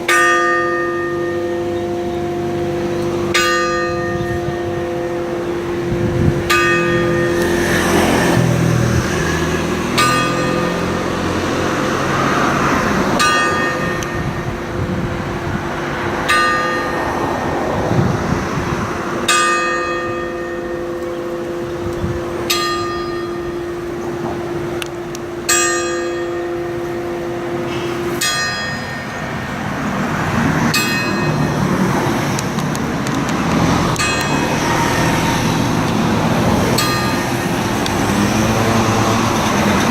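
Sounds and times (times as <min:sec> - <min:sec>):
church bell clanging: 0:00.0 - 0:39.9.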